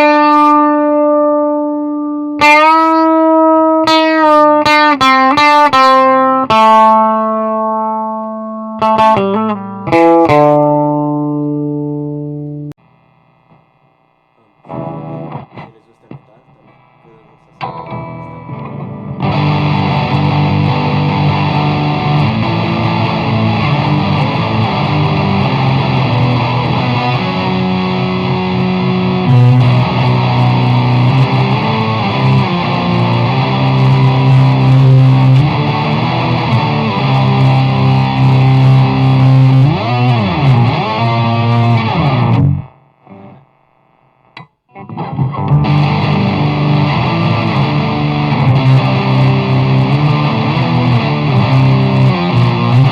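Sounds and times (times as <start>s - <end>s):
distorted electric guitar riffs: 0.0s - 52.9s.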